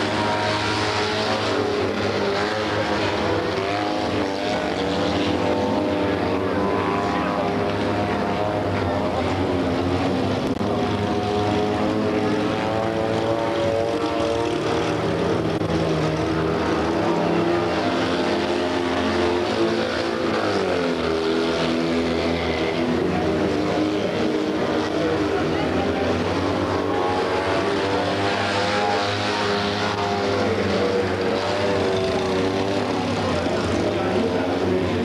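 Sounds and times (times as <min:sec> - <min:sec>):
race car engines at high revs: 0:00.0 - 0:35.0.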